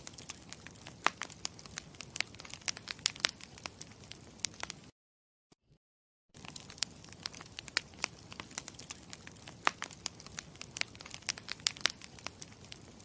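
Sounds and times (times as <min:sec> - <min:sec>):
campfire crackling: 0:00.0 - 0:04.9, 0:06.4 - 0:13.0.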